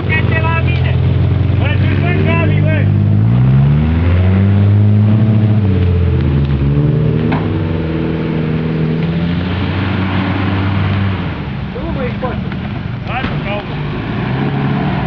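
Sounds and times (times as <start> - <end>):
off-road vehicle engine under load: 0.0 - 15.0.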